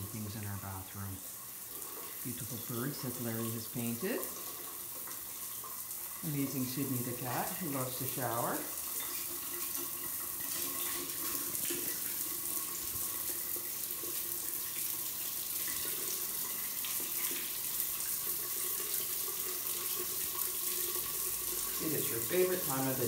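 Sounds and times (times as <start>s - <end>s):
shower water splashing on tiles: 0.0s - 23.0s.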